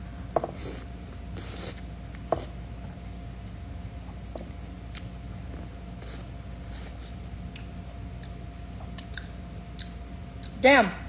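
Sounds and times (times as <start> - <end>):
soft crunchy chewing: 0.6 - 10.6.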